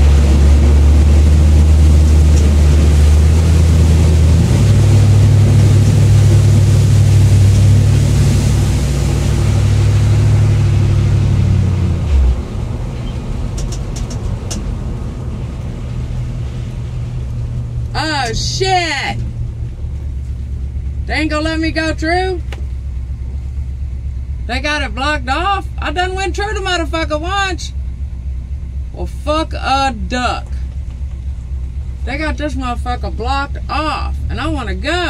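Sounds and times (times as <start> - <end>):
truck engine running under load: 0.0 - 35.0.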